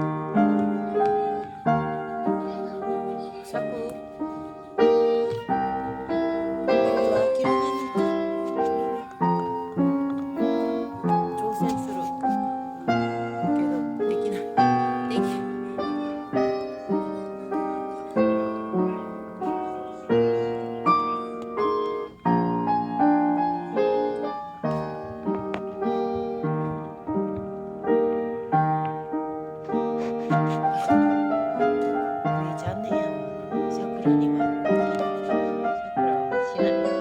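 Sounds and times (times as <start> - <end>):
gentle piano chords: 0.0 - 37.0.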